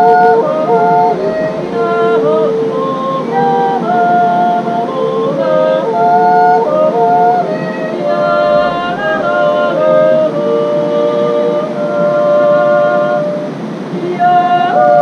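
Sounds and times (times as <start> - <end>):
accordion: 0.0 - 15.0
yodelling voices: 0.0 - 15.0.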